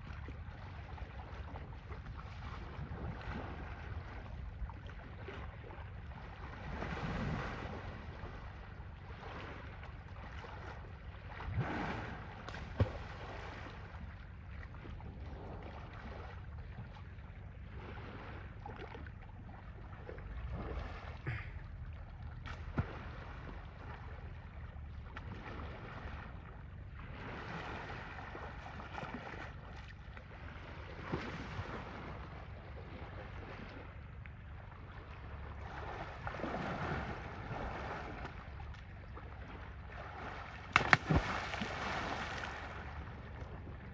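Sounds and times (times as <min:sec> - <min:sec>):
water sloshing and splashing: 0:00.0 - 0:43.9
wind rumble on microphone: 0:00.0 - 0:43.9.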